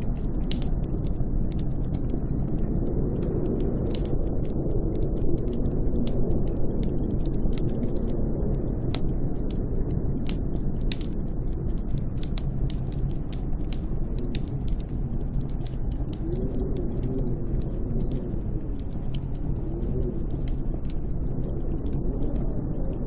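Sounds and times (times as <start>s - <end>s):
sharp crackles: 0.0s - 23.0s
wind rumbling: 0.0s - 23.0s.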